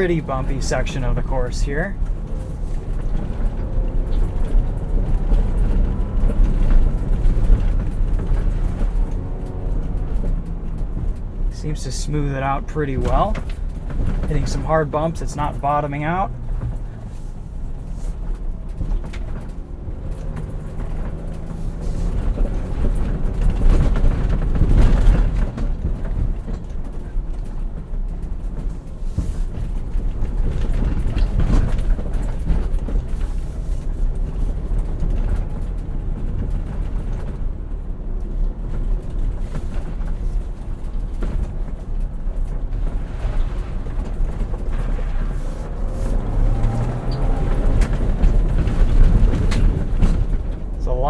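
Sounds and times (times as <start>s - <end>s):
car engine pulling hard: 0.0s - 51.0s
suspension thuds and rattles: 0.0s - 51.0s.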